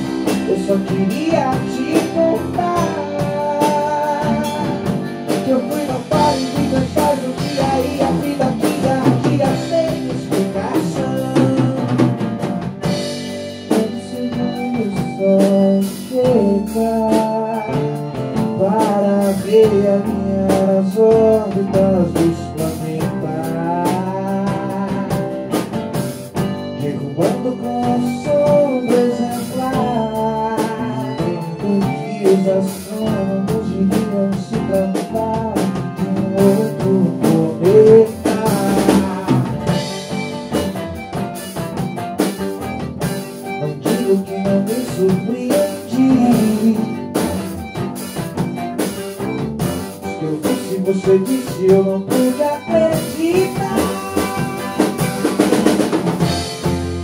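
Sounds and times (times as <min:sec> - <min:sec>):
man singing into a microphone: 0:00.0 - 0:25.7, 0:26.4 - 0:40.6, 0:43.4 - 0:47.9, 0:50.0 - 0:56.3
live band playing rock song: 0:00.0 - 0:57.0.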